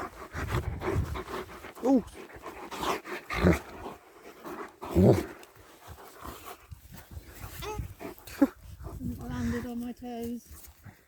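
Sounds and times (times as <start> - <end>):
dog panting: 0.0 - 9.8.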